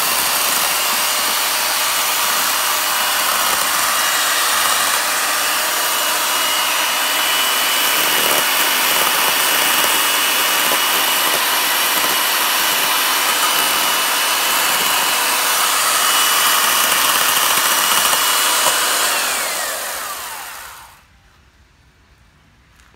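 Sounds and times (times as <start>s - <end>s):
electric chainsaw cutting wood: 0.0s - 21.1s.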